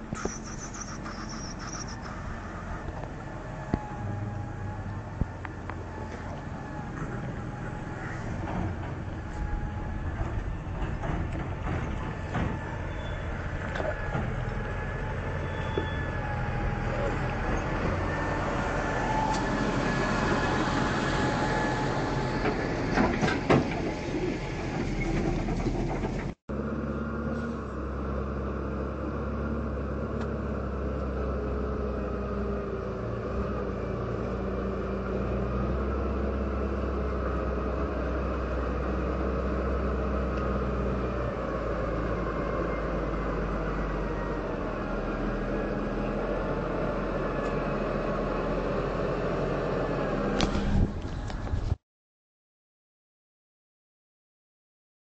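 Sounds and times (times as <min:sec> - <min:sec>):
tractor diesel engine running: 0:00.0 - 0:51.8.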